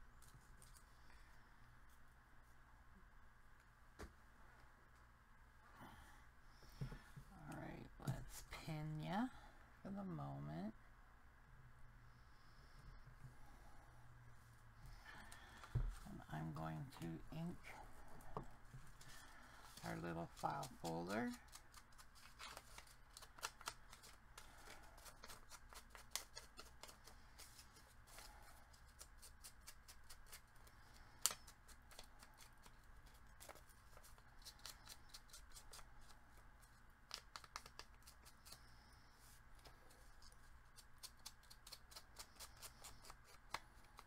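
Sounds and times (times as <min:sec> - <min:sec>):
faint low hum: 0:00.0 - 0:44.0.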